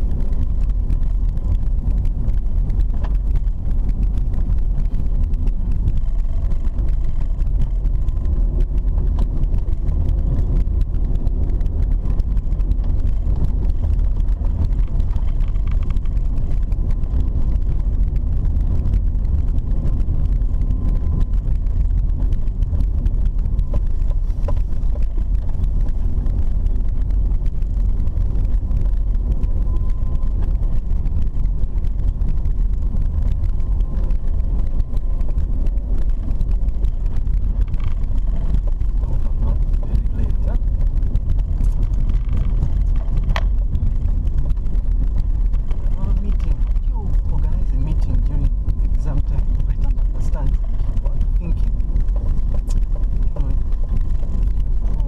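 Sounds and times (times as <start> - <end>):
car driving on dirt road: 0.0 - 55.0.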